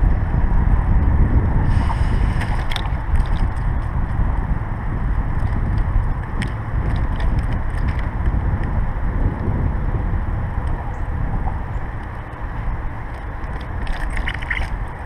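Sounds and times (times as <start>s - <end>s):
bicycle tyres rolling on path: 0.0s - 15.0s
wind buffeting microphone: 0.0s - 15.0s.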